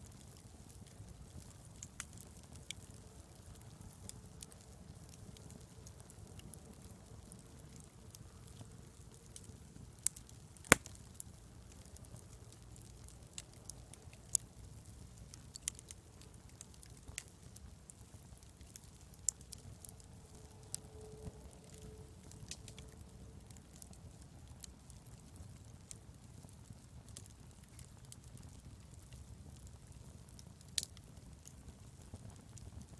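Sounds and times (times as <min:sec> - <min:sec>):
campfire crackling and popping: 0:00.0 - 0:32.9.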